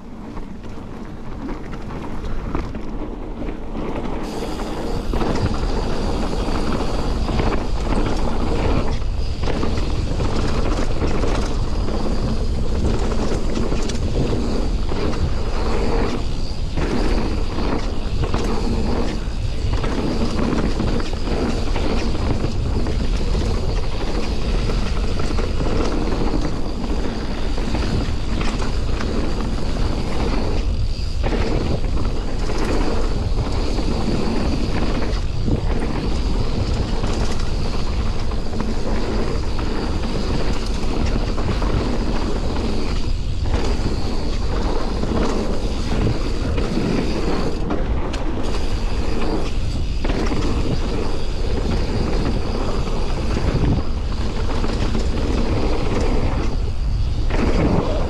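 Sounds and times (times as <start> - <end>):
tyres rolling over dirt: 0.0 - 58.0
wind buffeting microphone: 0.0 - 58.0.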